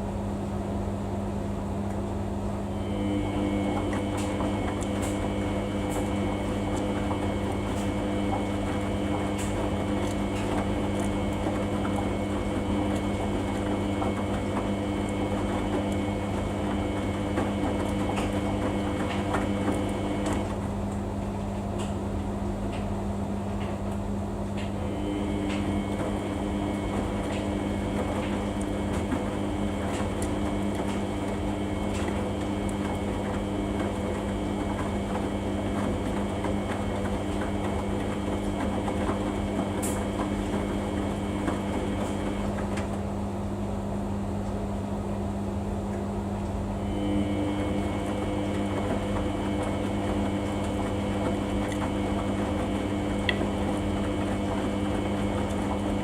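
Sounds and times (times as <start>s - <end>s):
washing machine hum: 0.0s - 56.0s.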